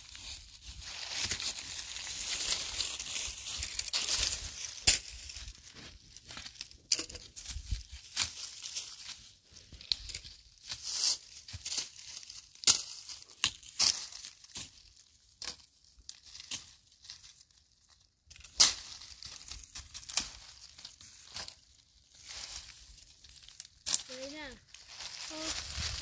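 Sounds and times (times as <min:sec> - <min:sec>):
dry leaves crunching and rustling: 0:00.0 - 0:26.0.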